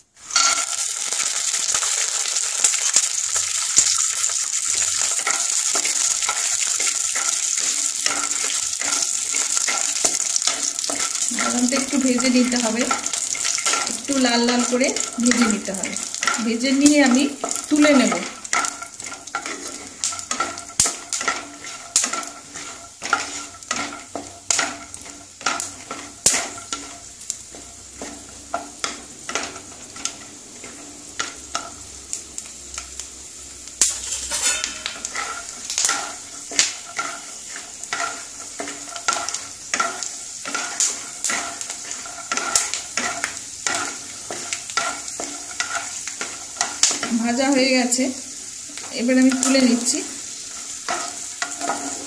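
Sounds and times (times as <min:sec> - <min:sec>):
peanuts sizzling in oil: 0:00.0 - 0:52.0
spatula scraping pan: 0:00.2 - 0:52.0.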